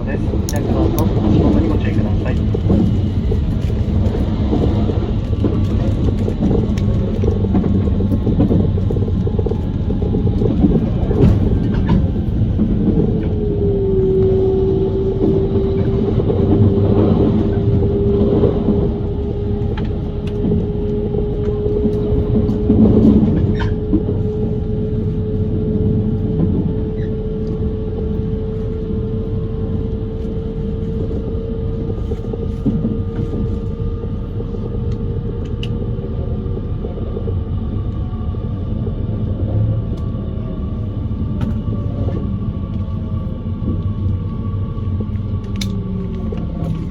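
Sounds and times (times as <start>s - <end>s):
train wheels rumbling on rails: 0.0s - 46.9s
train whine: 0.0s - 46.9s.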